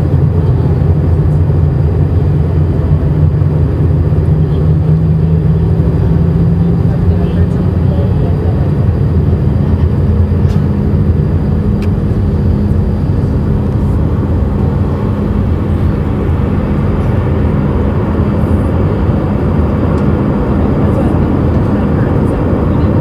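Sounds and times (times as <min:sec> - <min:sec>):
constant low hum: 0:00.0 - 0:23.0
jet engine and airflow rushing: 0:00.0 - 0:23.0.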